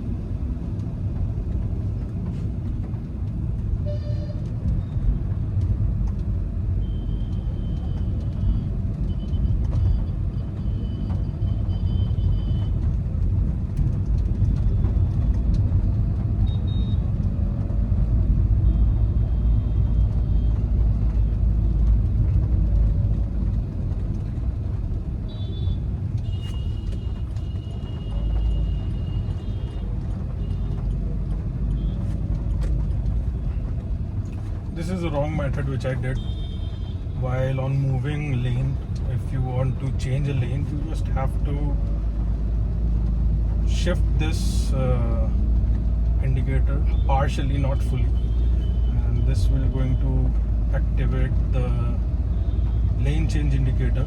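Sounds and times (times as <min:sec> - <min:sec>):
car cabin engine and road rumble: 0:00.0 - 0:54.0.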